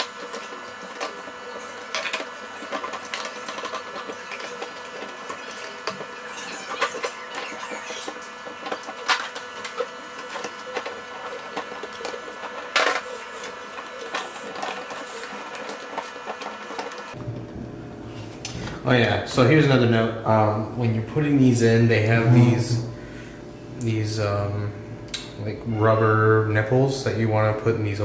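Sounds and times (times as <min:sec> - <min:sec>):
steady hum: 0:00.0 - 0:25.7.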